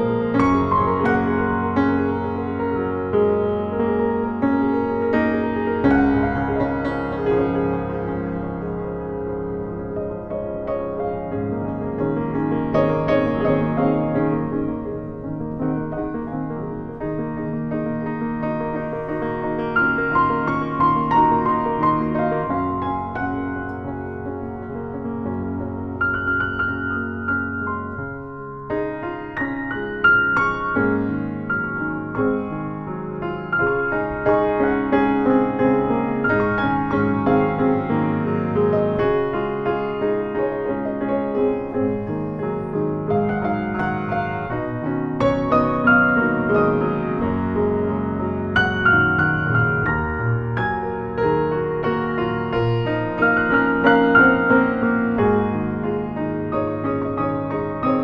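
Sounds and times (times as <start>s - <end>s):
piano duet: 0.0s - 58.0s.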